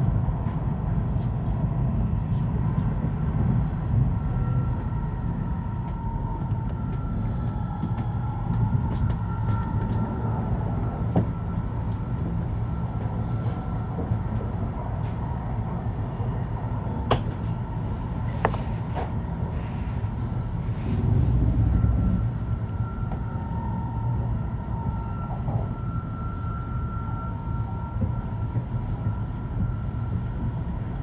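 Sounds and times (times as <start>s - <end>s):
train cabin rumble with whine: 0.0s - 31.0s.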